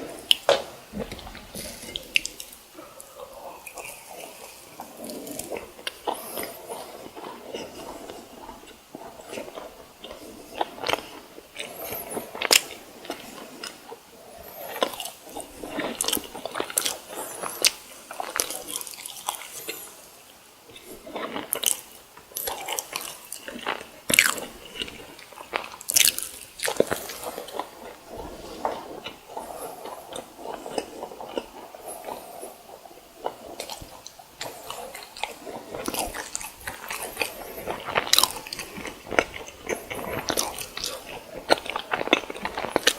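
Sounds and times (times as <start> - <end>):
crunchy snack chewing: 0.0 - 20.0, 20.7 - 42.9.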